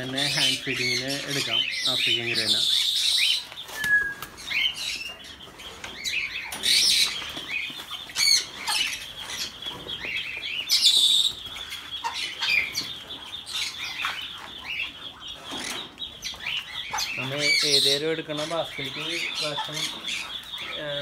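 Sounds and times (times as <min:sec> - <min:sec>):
birds chattering and calling: 0:00.0 - 0:21.0.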